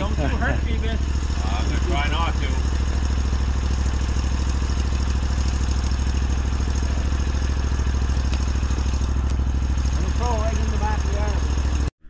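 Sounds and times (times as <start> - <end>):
engine idling: 0.0 - 11.9.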